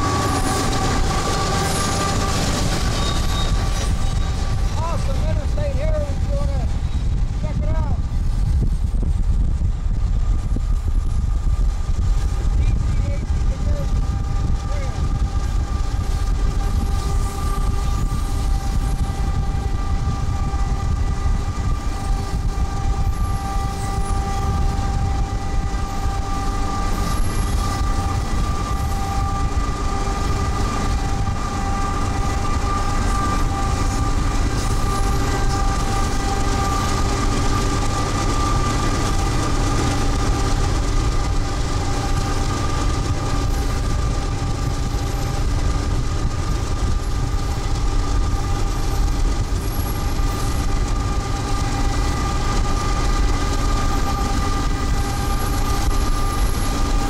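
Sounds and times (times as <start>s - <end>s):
high whining tones: 0.0s - 7.3s, 10.1s - 57.0s
freight train rumbling: 0.0s - 57.0s.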